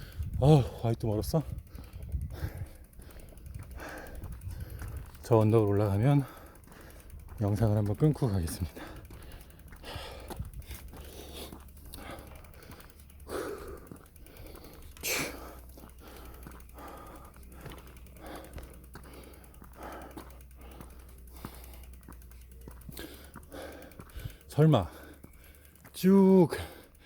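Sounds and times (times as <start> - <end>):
man breathing hard: 0.0 - 0.8, 1.4 - 5.2, 6.2 - 7.4, 8.6 - 27.0.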